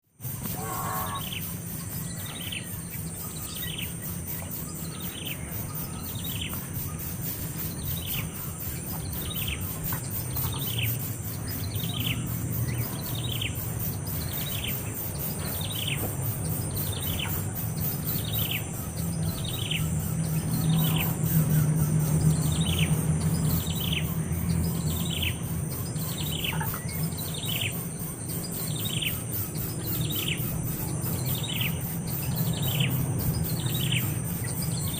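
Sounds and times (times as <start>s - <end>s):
bird calling: 0.2s - 34.9s.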